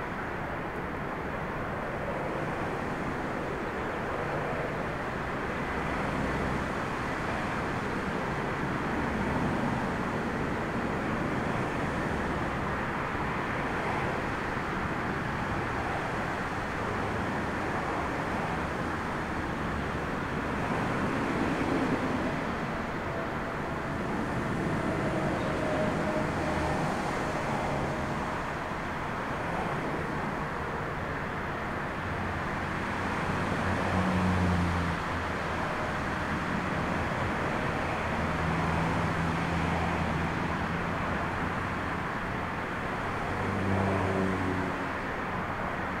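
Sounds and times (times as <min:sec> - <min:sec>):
strong storm wind: 0:00.0 - 0:46.0.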